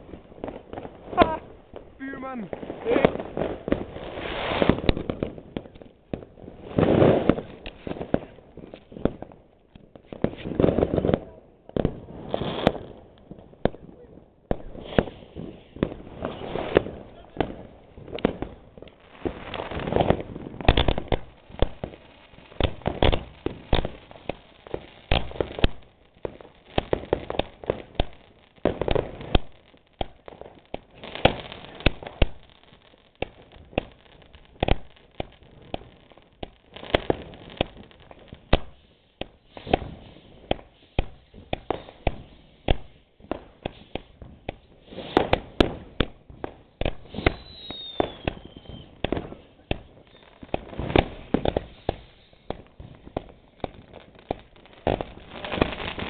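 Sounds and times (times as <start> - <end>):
fireworks and firecrackers banging: 0.0 - 56.0.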